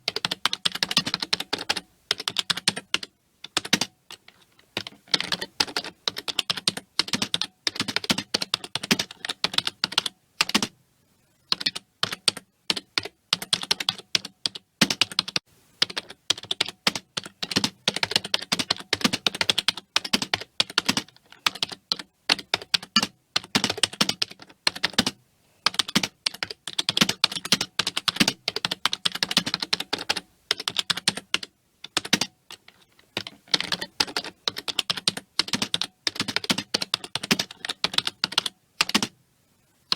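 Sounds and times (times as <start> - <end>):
keyboard typing: 0.0 - 39.2.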